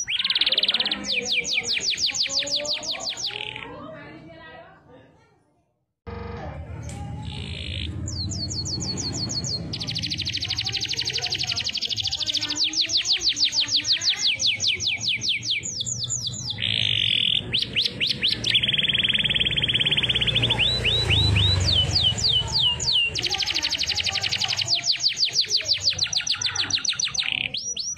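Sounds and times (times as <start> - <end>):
canary singing trills: 0.0 - 3.9, 6.8 - 27.9.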